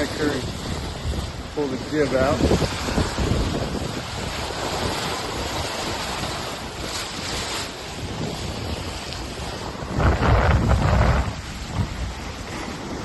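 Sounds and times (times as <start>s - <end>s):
water rushing past boat: 0.0s - 13.0s
wind buffeting microphone: 0.0s - 13.0s.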